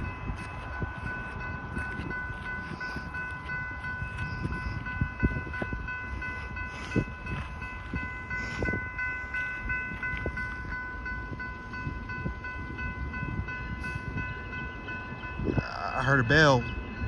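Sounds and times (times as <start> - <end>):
crossing bell ringing: 0.0 - 17.0.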